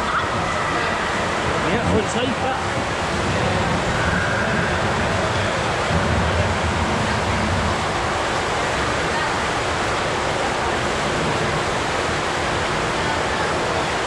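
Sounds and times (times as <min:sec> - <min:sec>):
water rushing down a tube slide: 0:00.0 - 0:14.0.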